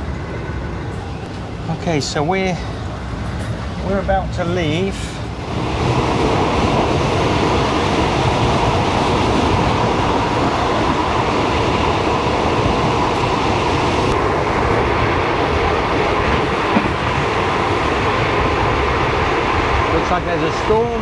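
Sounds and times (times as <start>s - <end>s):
train wheels on track: 0.0s - 21.0s.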